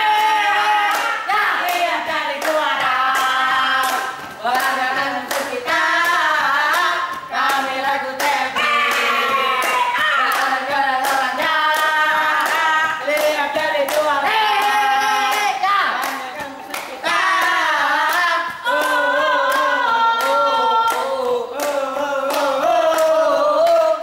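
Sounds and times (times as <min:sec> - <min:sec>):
group chanting: 0:00.0 - 0:24.0
rhythmic hand claps: 0:00.0 - 0:24.0.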